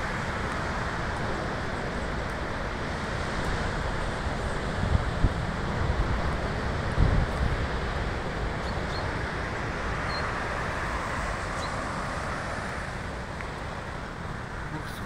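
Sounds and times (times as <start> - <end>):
wind buffeting microphone: 0.0 - 14.5
storm surf: 0.0 - 15.0.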